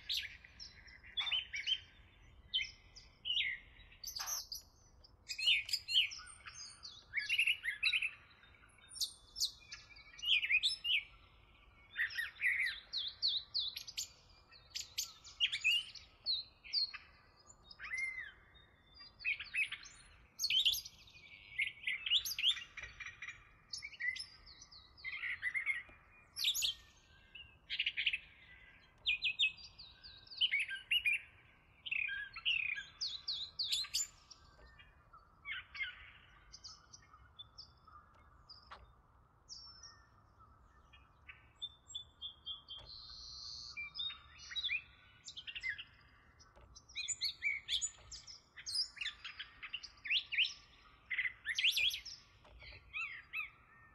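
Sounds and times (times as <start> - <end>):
songbirds chirping and singing: 0.0 - 53.9.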